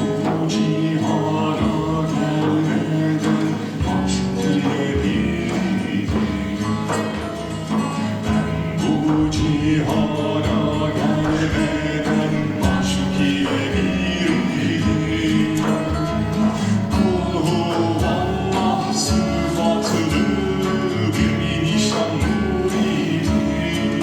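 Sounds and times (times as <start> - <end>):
plucked string instrument: 0.0 - 24.0
voices singing together: 0.0 - 24.0.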